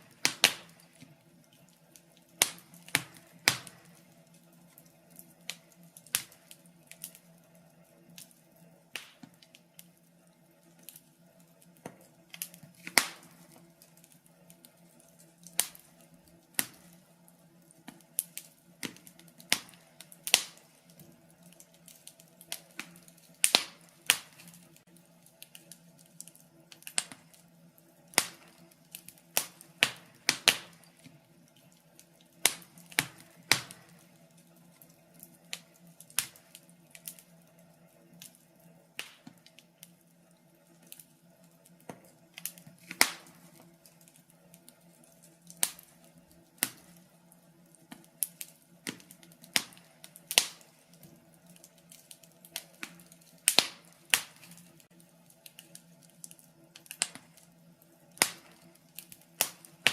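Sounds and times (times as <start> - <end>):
faint steady hum: 0.0 - 59.9
wood fire crackling: 0.0 - 59.9.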